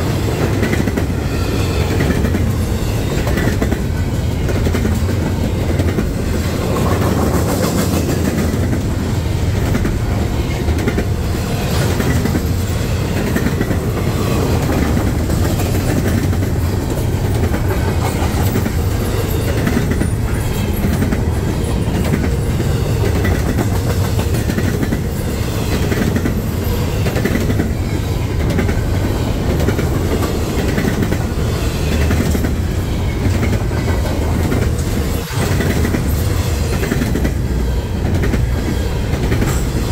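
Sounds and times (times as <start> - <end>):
freight train cars rumbling past: 0.0 - 39.9
wheels clicking over rail joints: 0.2 - 39.9.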